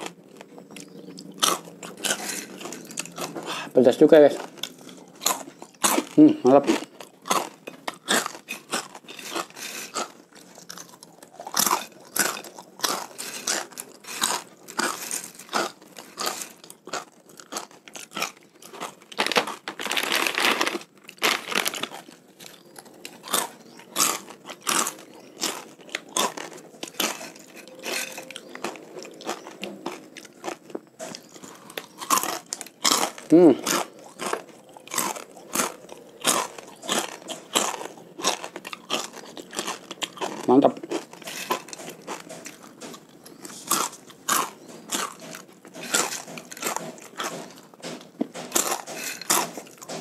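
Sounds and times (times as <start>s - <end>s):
crunching and chewing snack: 0.0s - 50.0s.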